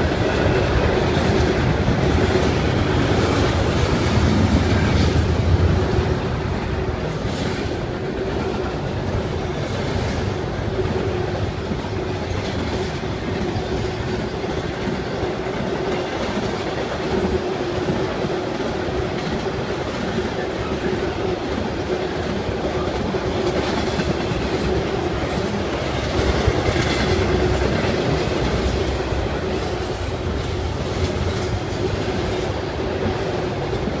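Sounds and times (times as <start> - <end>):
train wheels clacking on rails: 0.0 - 34.0.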